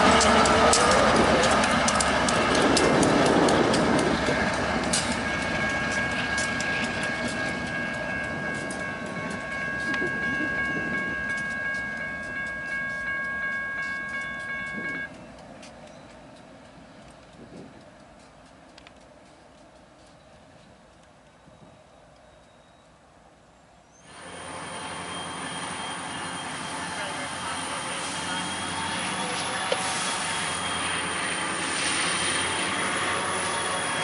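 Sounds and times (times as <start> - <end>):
wheels clicking over rail joints: 0.0 - 23.0, 24.0 - 34.0
diesel locomotives rumbling past: 0.0 - 34.0.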